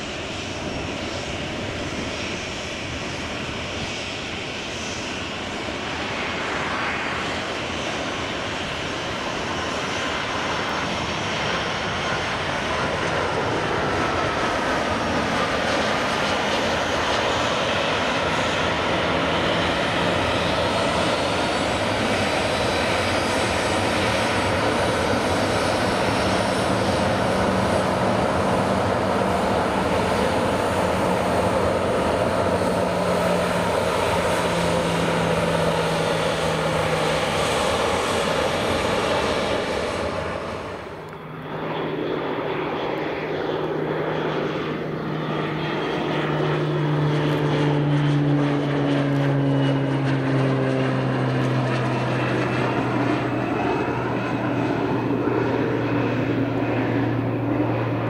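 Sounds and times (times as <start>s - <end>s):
jet airliner engines: 0.0s - 58.0s
twin turboprop drone: 0.0s - 58.0s.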